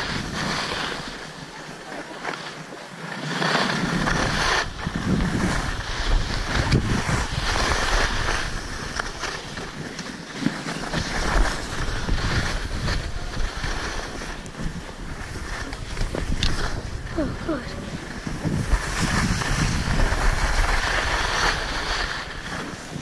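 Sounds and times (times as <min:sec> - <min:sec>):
wind buffeting microphone: 0:00.0 - 0:01.3, 0:03.7 - 0:09.9, 0:10.8 - 0:23.0
skis scraping over snow: 0:00.0 - 0:23.0.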